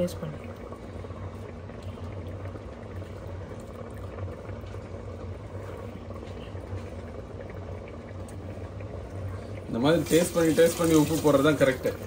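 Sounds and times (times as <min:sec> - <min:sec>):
broth boiling and bubbling: 0:00.0 - 0:12.0.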